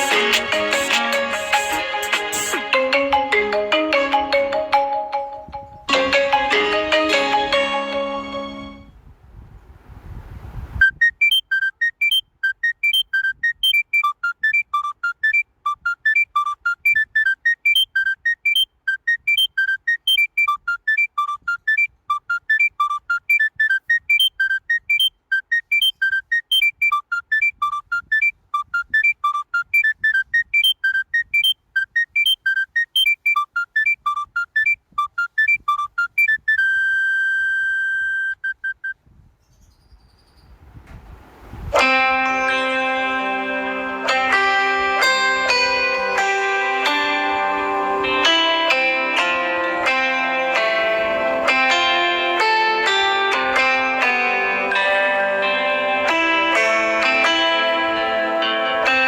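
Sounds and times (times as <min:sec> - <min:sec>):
phone ringtone beeping melody: 0:00.0 - 0:08.9, 0:10.8 - 0:39.0, 0:41.8 - 0:59.0.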